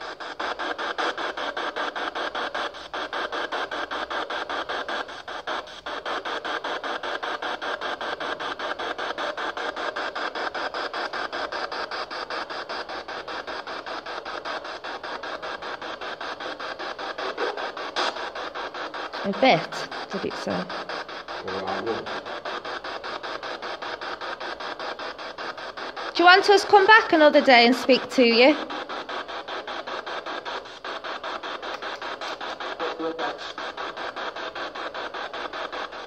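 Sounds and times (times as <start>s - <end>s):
choppy radio static hiss: 0.0s - 36.0s.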